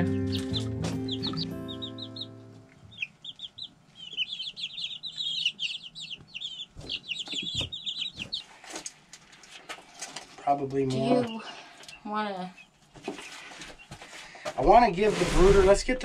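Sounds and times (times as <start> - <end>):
chicks peeping: 0.0 - 15.2.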